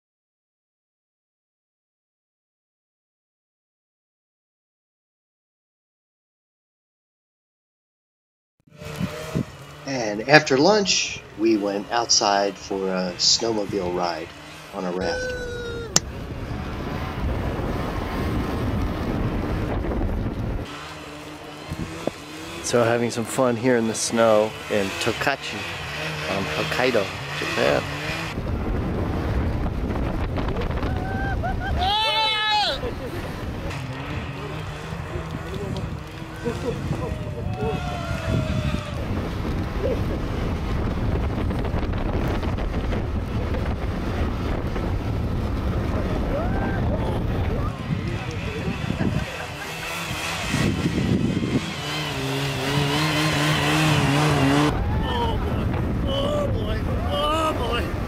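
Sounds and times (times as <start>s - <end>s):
raft rushing over snow: 8.7s - 58.0s
snowmobile engine hum: 8.7s - 58.0s
wind buffeting microphone: 8.8s - 20.8s, 21.6s - 25.0s, 25.7s - 58.0s.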